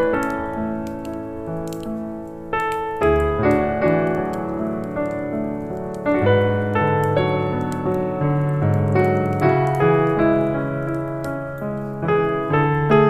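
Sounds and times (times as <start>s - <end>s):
soft jazz piano music: 0.0s - 13.0s
wood fire crackling: 0.0s - 13.0s.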